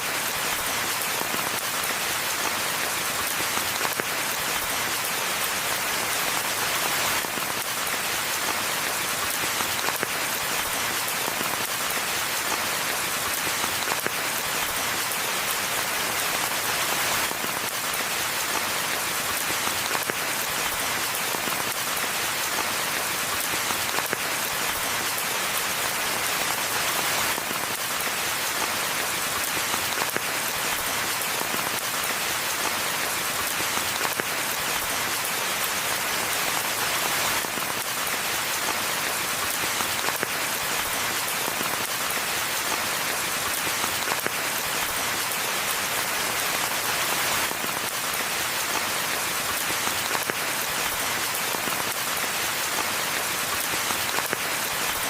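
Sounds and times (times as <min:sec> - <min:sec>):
rain patter in a forest: 0:00.0 - 0:55.0.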